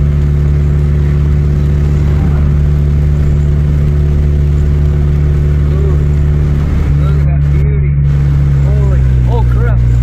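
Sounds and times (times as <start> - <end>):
road noise: 0.0 - 10.0
vehicle engine drone: 0.0 - 10.0.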